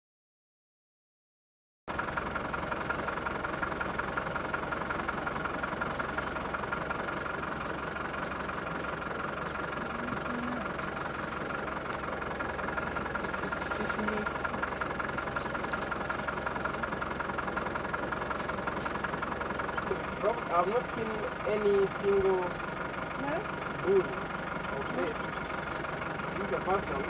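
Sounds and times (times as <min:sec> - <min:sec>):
vehicle engine running slowly: 0:01.9 - 0:27.0.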